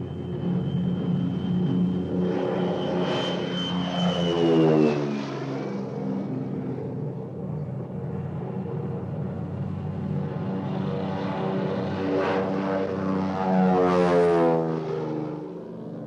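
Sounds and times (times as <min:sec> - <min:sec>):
airplane flying past: 0:00.0 - 0:16.0.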